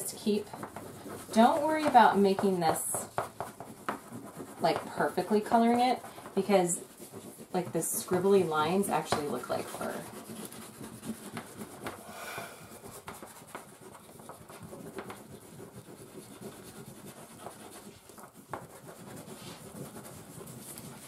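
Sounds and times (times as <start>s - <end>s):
crayons scribbling on paper: 0.0s - 21.0s.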